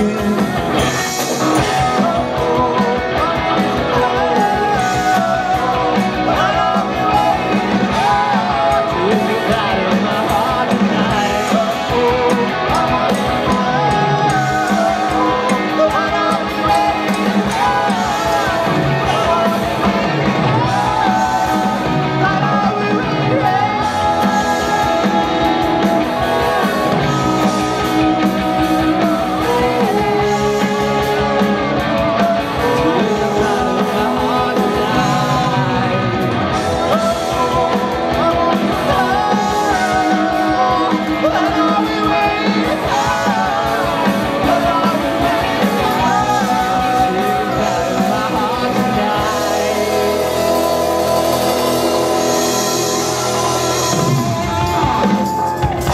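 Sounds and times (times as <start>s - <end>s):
bass guitar: 0.0s - 55.9s
drum kit: 0.0s - 55.9s
electric guitars: 0.0s - 55.9s
lead vocal singing: 0.0s - 55.9s.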